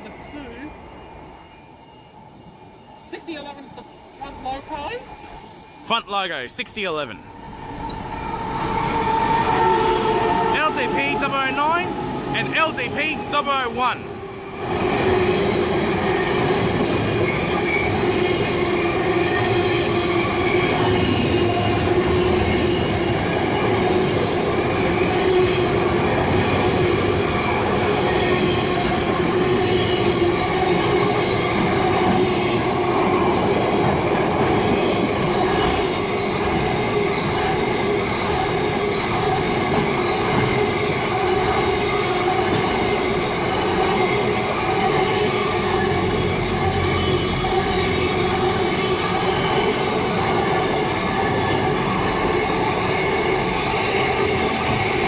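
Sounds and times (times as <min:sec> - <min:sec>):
train wheels rumbling on rails: 0:07.5 - 0:55.0.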